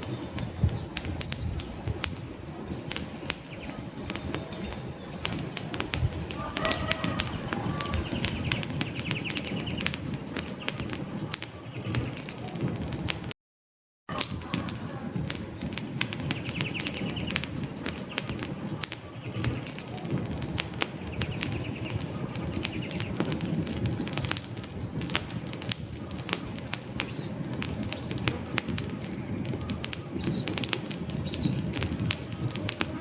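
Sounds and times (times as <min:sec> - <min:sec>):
campfire flames rumbling: 0:00.0 - 0:13.4, 0:14.1 - 0:33.0
logs crackling and popping: 0:00.0 - 0:13.4, 0:14.1 - 0:33.0.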